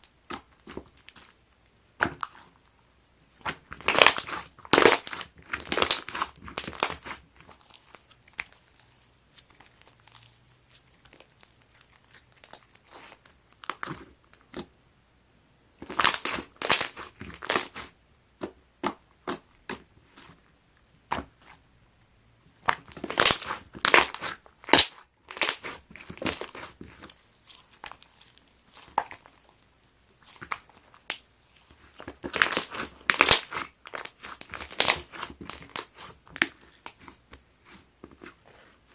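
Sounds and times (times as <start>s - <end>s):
slime crackling and popping: 3.4s - 14.7s, 15.8s - 20.3s, 22.6s - 38.7s.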